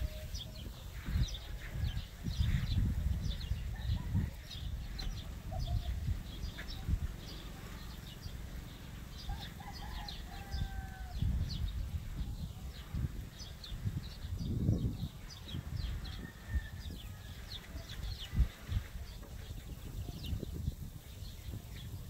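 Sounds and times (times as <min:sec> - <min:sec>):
birds chirping: 0:00.0 - 0:22.0
drawn-out bird calls: 0:00.0 - 0:22.0.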